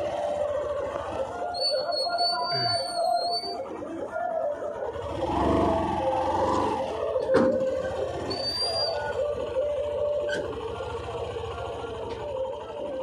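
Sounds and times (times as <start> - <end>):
vehicle engine running: 0.0 - 1.6, 2.5 - 13.0.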